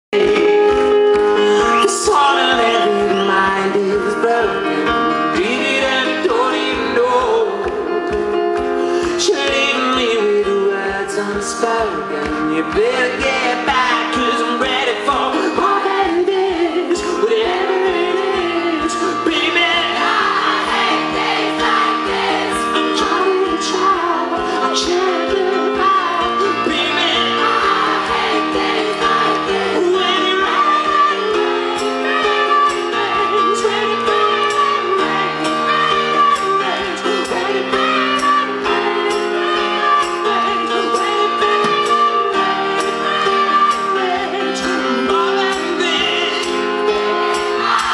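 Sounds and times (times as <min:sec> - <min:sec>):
man singing into a microphone: 0:00.1 - 0:20.7, 0:22.5 - 0:47.1
band playing pop song: 0:00.1 - 0:47.9.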